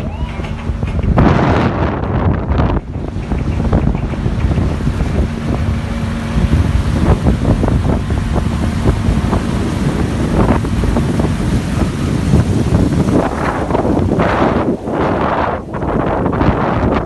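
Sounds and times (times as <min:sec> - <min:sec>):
outboard motor drone: 0:00.0 - 0:17.0
water splashing against hull: 0:00.0 - 0:17.0
wind buffeting microphone: 0:00.0 - 0:17.0.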